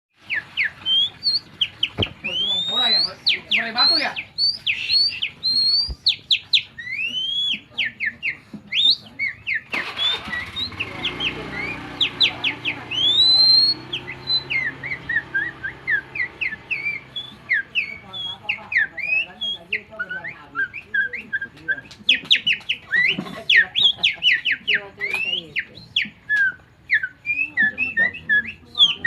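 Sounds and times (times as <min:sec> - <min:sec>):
man whistling birdsong: 0:02.2 - 0:29.0.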